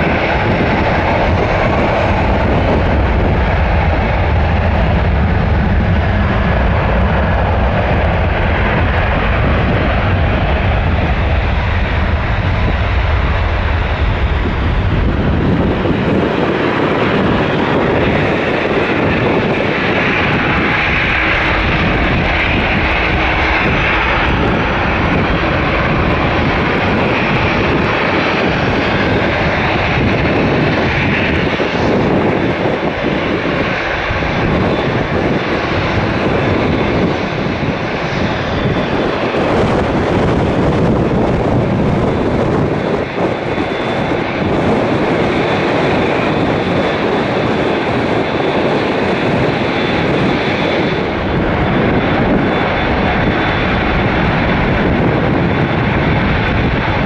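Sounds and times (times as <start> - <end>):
jet engines running loud: 0.0 - 57.0.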